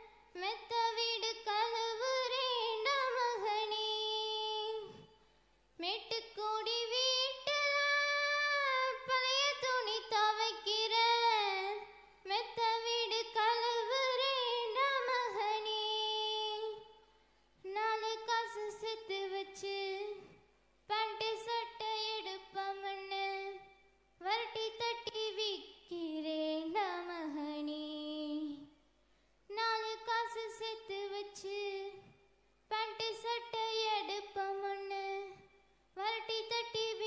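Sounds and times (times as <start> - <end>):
girl singing into microphone: 0.0 - 5.1, 5.8 - 17.0, 17.6 - 28.7, 29.5 - 35.4, 36.0 - 37.0.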